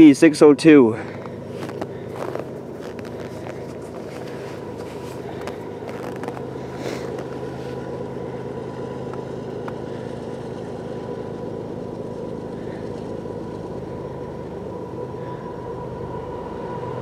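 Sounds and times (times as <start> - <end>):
diesel locomotive engine drone: 0.0 - 17.0
faint steady whine: 0.0 - 17.0.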